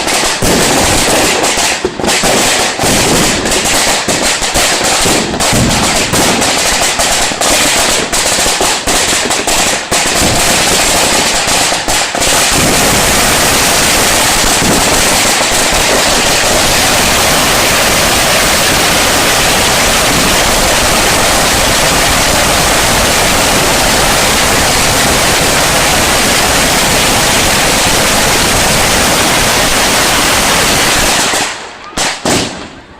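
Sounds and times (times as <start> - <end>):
fireworks bangs and crackling: 0.0 - 32.9.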